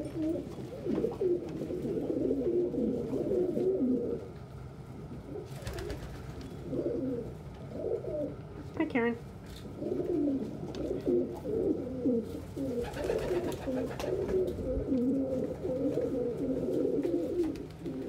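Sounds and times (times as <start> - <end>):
pigeons cooing: 0.0 - 8.7, 9.6 - 18.0.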